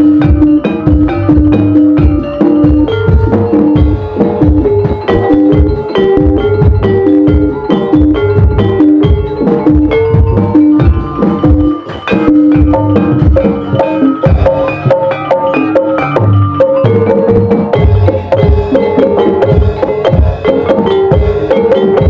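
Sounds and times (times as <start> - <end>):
struck keyed percussion melody: 0.0 - 22.0.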